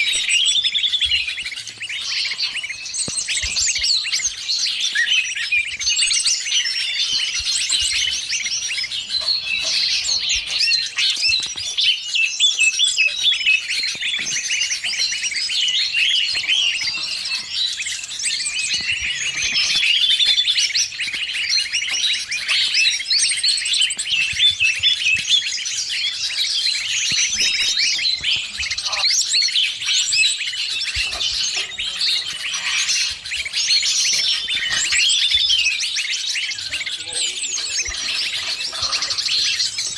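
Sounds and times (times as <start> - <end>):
leafbird calls: 0.0 - 39.9
songbirds chattering and chirping: 0.0 - 39.9.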